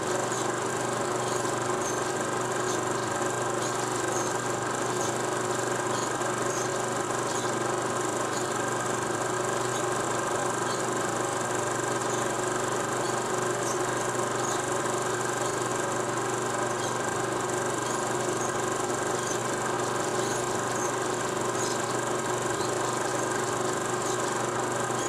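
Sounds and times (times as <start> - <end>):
mechanical hum and whir: 0.0 - 25.0.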